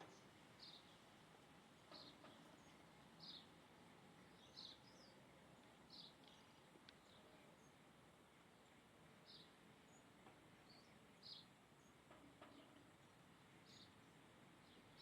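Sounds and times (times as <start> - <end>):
background hiss: 0.0 - 15.0
faint bird chirping: 0.0 - 15.0.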